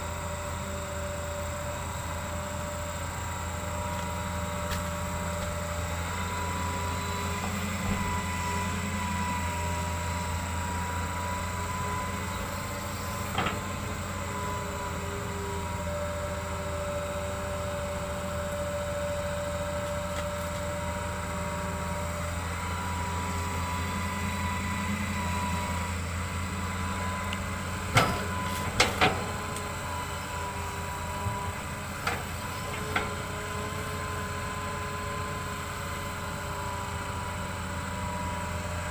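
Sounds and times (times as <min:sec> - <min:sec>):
excavator engine drone: 0:00.0 - 0:38.9
hydraulic whine: 0:00.0 - 0:38.9.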